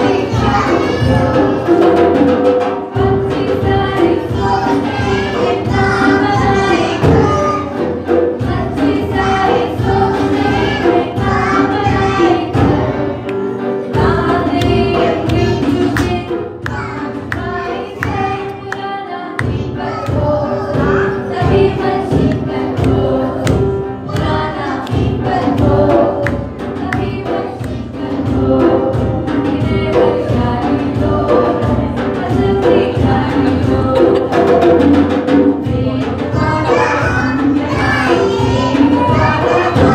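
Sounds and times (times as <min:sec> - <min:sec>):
group of voices singing: 0:00.0 - 0:39.9
musical backing with beat: 0:00.0 - 0:39.9.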